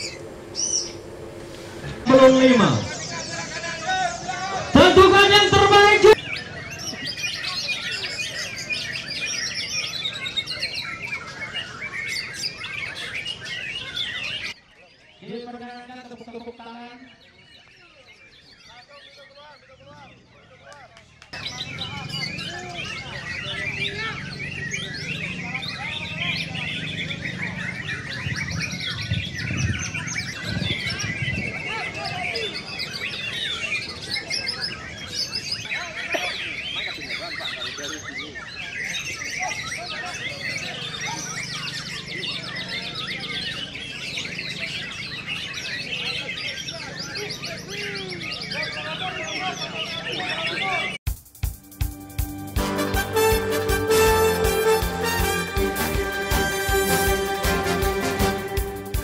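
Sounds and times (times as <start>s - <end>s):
low background murmur: 0.0s - 51.0s
songbirds chirping and whistling: 0.0s - 59.0s.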